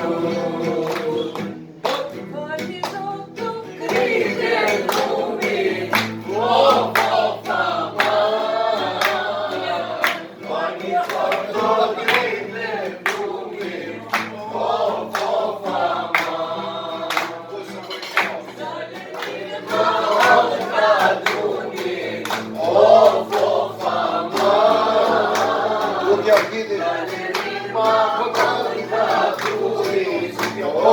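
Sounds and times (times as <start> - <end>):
hand claps: 0.0 - 30.9
voices singing together: 0.0 - 30.9.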